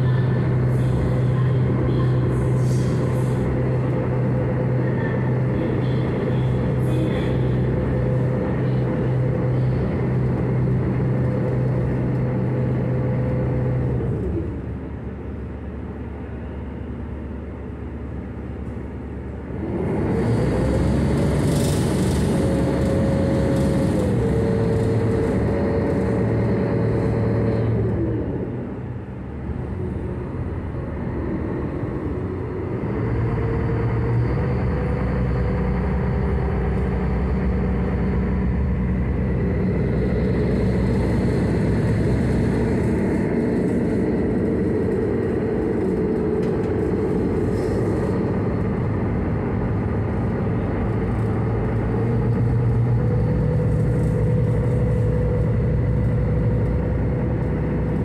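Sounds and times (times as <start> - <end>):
ship engine humming: 0.0 - 58.0.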